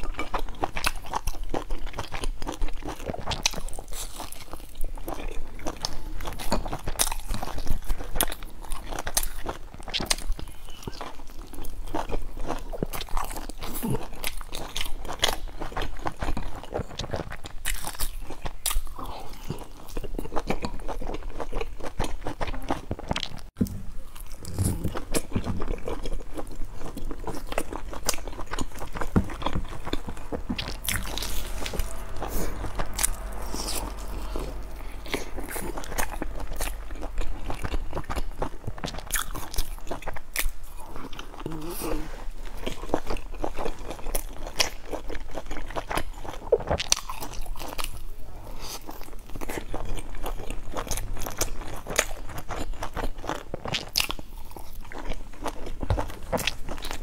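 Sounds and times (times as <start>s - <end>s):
crunchy chewing of buns: 0.0s - 57.0s.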